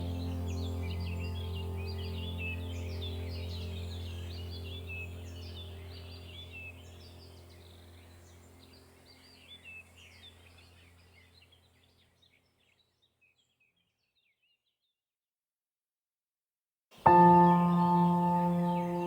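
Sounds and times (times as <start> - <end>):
small birds chirping: 0.0 - 15.0, 17.0 - 19.0.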